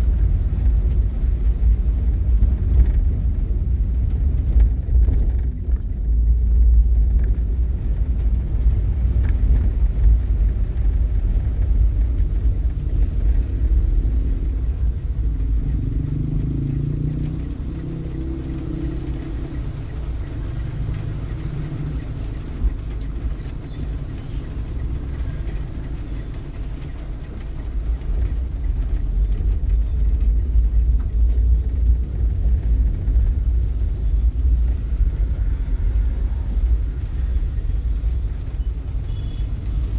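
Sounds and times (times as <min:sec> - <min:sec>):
motor vehicle engine rumble: 0:00.0 - 0:39.9.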